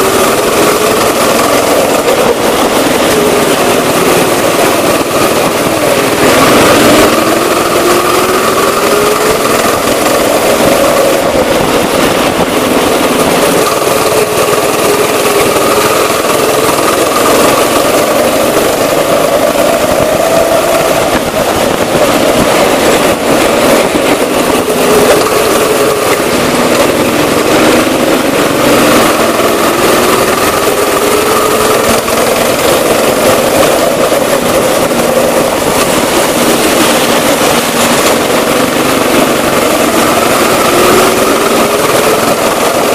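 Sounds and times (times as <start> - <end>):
go-kart engine revving: 0.0 - 42.9.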